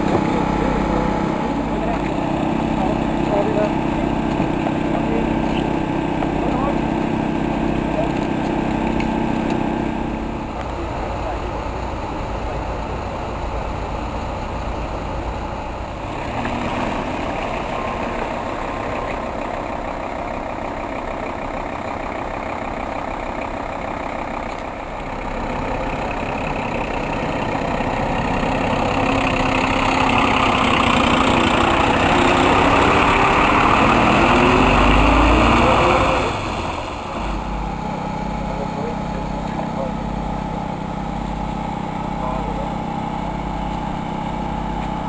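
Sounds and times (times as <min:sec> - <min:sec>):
diesel engine running: 0:00.0 - 0:45.0
engine revving: 0:00.0 - 0:45.0.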